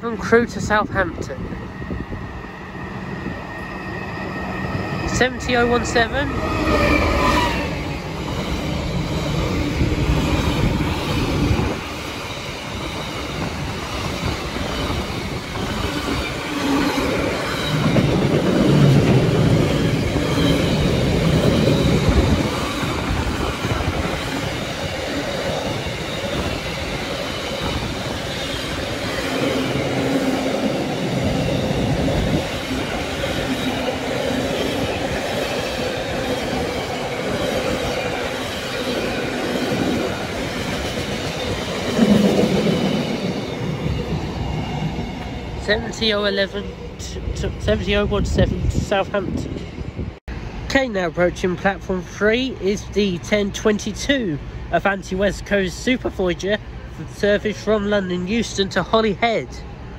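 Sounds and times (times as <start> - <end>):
diesel locomotive engine rumble: 0.0 - 59.9
train wheels on track: 0.1 - 59.9.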